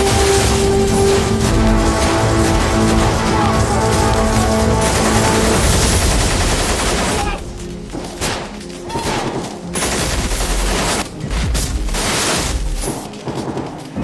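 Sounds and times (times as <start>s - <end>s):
rapid gunfire: 0.0s - 7.5s, 9.0s - 14.0s
soundtrack music: 0.0s - 14.0s.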